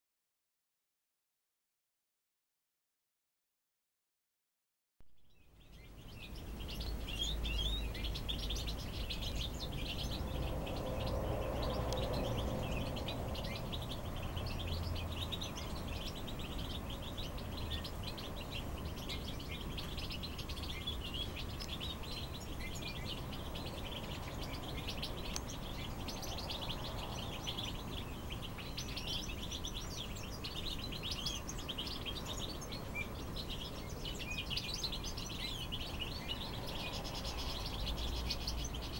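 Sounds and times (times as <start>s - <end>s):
nestlings begging with high chirps: 5.2s - 38.9s.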